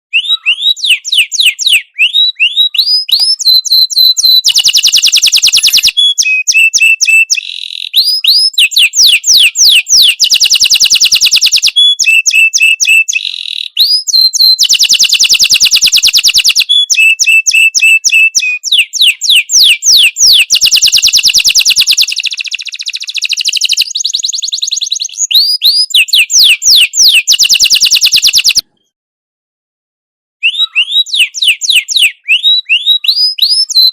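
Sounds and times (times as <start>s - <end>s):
songbird singing: 0.1s - 28.6s, 30.4s - 33.9s.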